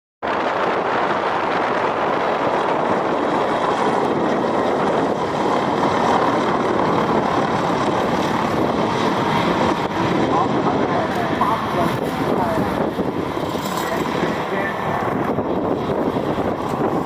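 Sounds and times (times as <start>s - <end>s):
helicopter rotor and turbine noise: 0.2s - 17.0s.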